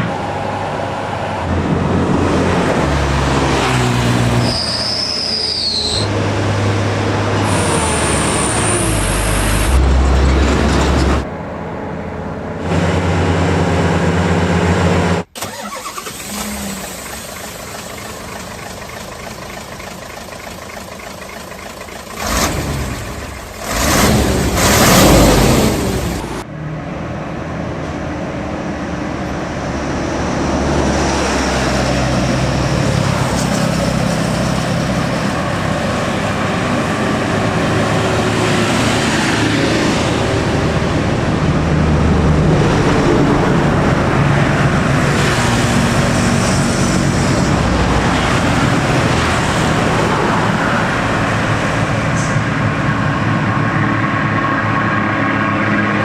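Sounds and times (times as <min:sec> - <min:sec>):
heavy truck engines labouring uphill: 0:00.0 - 0:56.0.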